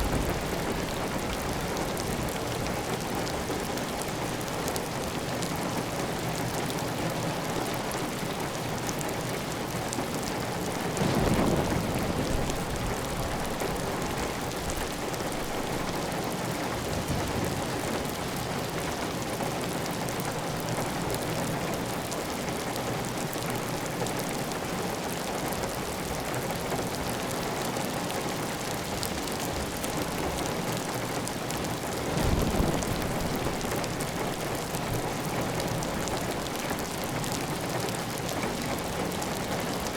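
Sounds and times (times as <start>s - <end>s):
heavy rain on a tile roof: 0.0s - 39.9s.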